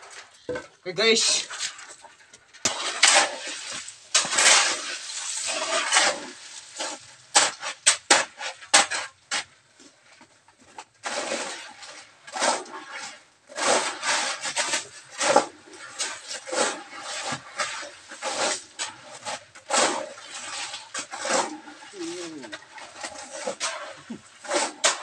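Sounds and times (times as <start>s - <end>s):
shovels scraping into gravel: 1.2s - 9.5s, 10.7s - 25.0s.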